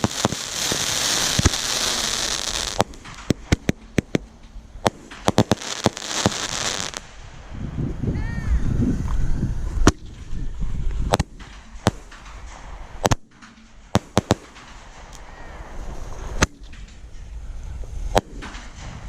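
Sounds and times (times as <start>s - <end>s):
fireworks bangs: 0.0s - 7.7s, 9.0s - 19.0s.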